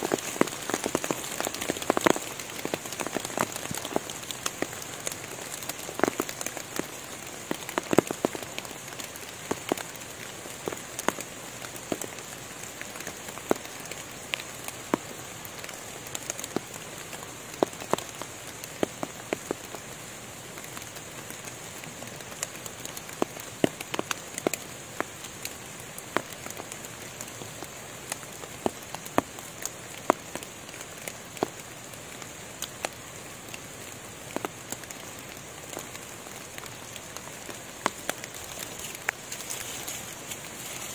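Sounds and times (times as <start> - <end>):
raindrops tapping on leaves: 0.0 - 40.9
steady rain hiss: 0.0 - 40.9.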